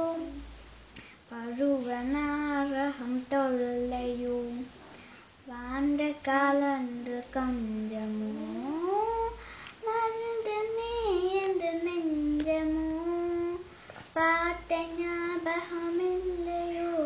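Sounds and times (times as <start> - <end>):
girl singing: 0.0 - 0.6, 1.3 - 17.0.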